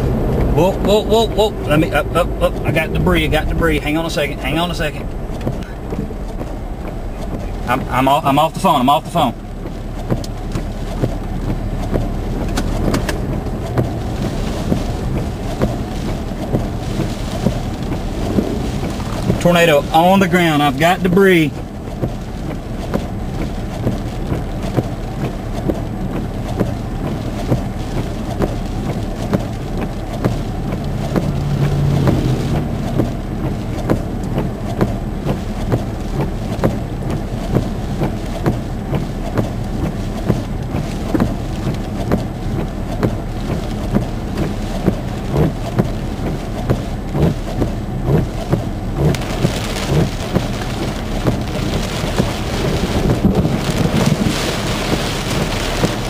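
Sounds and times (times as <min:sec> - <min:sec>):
heavy rain on a vehicle: 0:00.0 - 0:56.0
road and engine rumble: 0:00.0 - 0:56.0
raindrops tapping on glass: 0:09.3 - 0:56.0.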